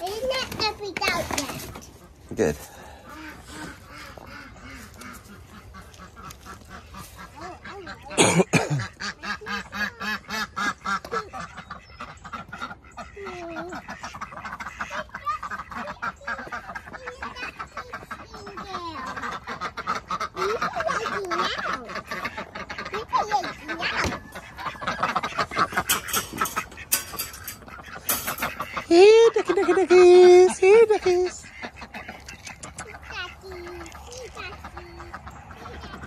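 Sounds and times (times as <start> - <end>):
ducks quacking: 0.0 - 36.0.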